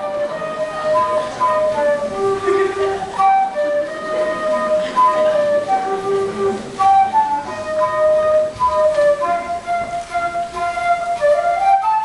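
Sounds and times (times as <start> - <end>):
solo flute melody: 0.0 - 12.0.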